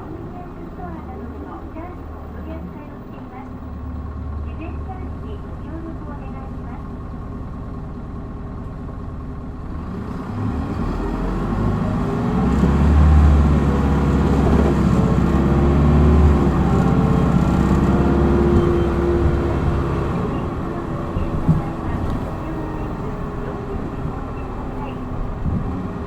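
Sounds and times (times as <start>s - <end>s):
bus engine accelerating: 0.0s - 26.0s.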